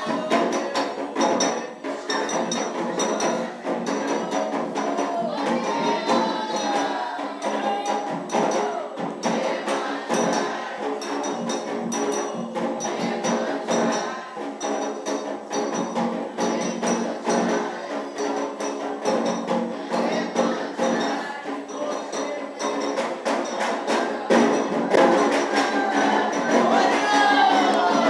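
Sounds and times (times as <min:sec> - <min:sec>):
group of voices singing: 0:00.0 - 0:28.0
hand drums: 0:00.0 - 0:28.0
metal percussion: 0:00.0 - 0:28.0.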